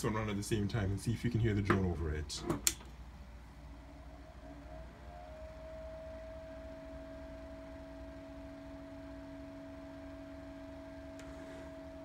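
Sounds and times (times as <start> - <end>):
desk fan droning: 0.0 - 12.0.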